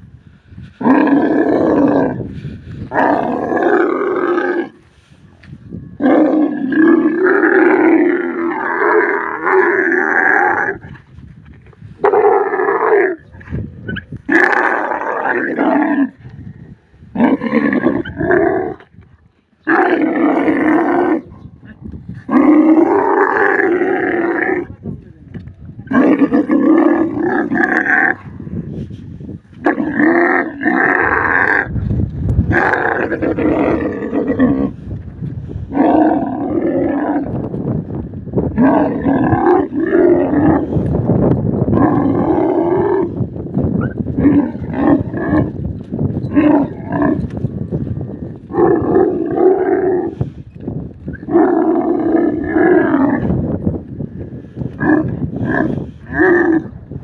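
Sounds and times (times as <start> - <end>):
camels bellowing: 0.7 - 5.2, 5.9 - 11.1, 11.9 - 19.0, 19.6 - 24.8, 25.8 - 56.8.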